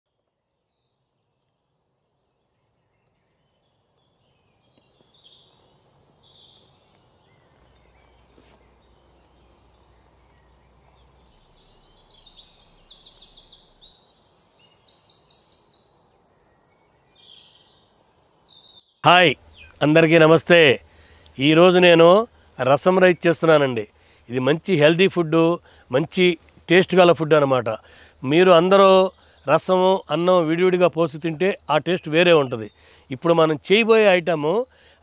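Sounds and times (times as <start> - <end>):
birds chirping and trilling: 0.1 - 35.0.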